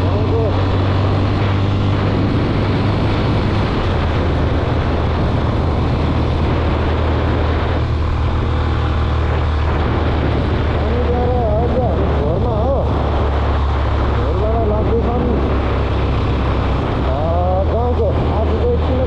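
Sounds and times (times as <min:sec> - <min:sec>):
motorcycle engine running: 0:00.0 - 0:19.0
road noise: 0:00.0 - 0:19.0
rushing wind: 0:00.0 - 0:19.0.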